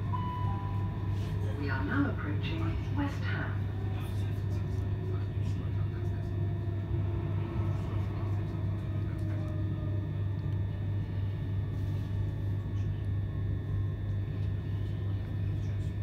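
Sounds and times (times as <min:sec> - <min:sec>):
electric train rumbling: 0:00.0 - 0:13.9.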